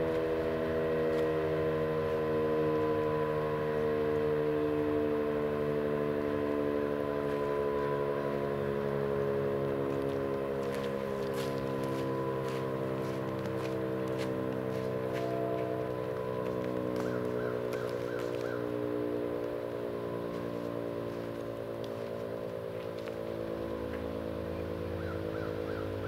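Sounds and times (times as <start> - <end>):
warning siren steady tone: 0.0 - 26.0.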